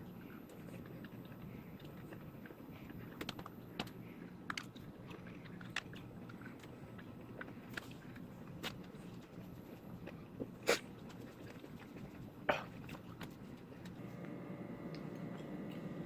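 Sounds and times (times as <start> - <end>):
chewing crunchy candy: 0.0 - 16.0
low room hum: 0.0 - 16.0.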